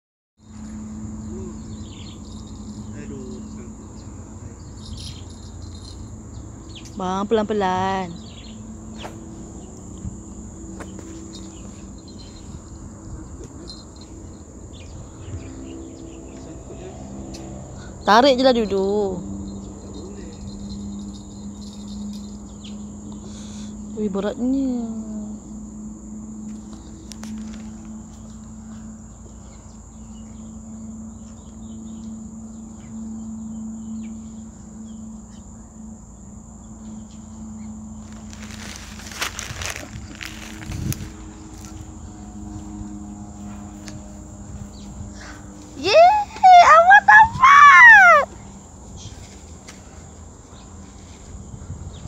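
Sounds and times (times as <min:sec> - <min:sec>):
high-pitched insect drone: 0:00.4 - 0:52.0.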